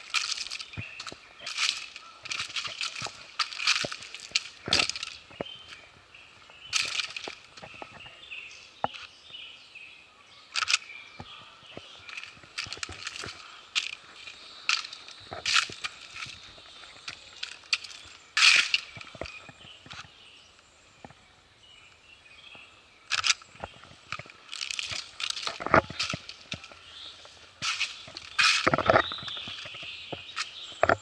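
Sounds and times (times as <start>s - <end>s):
crunching and rustling: 0.0s - 9.2s, 10.4s - 20.2s, 22.4s - 31.0s.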